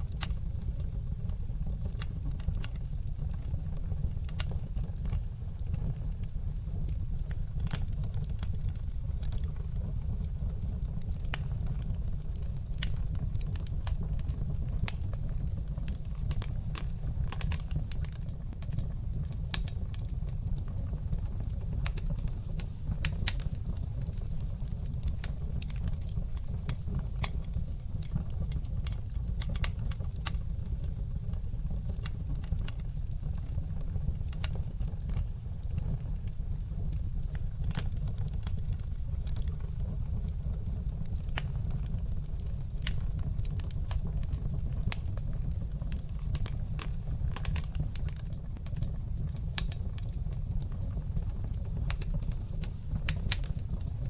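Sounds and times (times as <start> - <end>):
fire popping and snapping: 0.0 - 54.0
low rumble of flames: 0.0 - 54.0.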